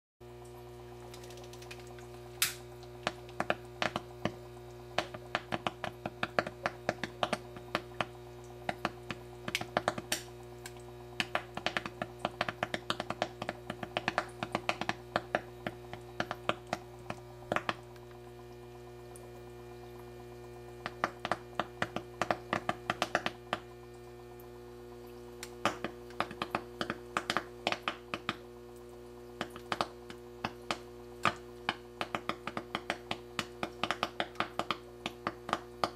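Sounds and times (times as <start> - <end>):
gas bubbles popping at flame: 0.2 - 35.9.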